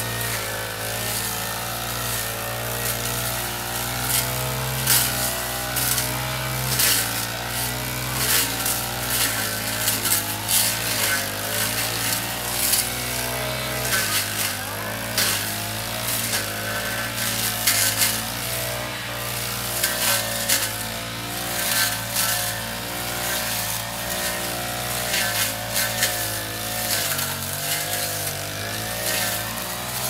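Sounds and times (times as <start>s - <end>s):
brush cutter engine: 0.0s - 30.0s
cutting head rasping through grass: 0.0s - 30.0s.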